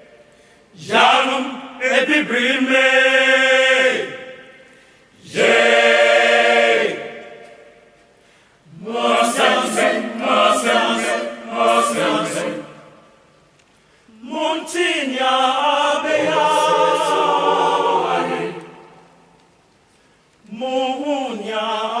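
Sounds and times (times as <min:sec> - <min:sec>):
choir singing: 0:00.8 - 0:04.6, 0:05.2 - 0:08.0, 0:08.7 - 0:13.2, 0:14.1 - 0:19.3, 0:20.5 - 0:22.0.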